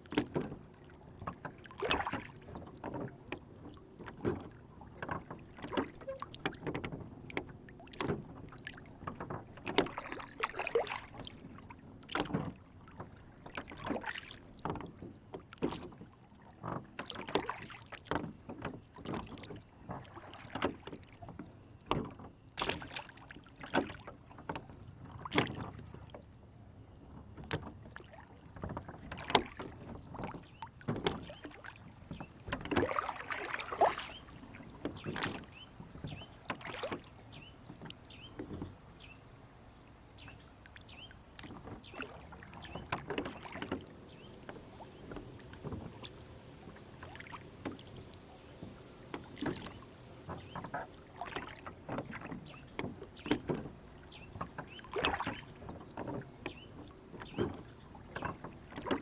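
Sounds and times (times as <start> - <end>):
oars knocking and splashing: 0.0 - 26.4, 27.1 - 59.0
water sloshing around boat: 0.0 - 59.0.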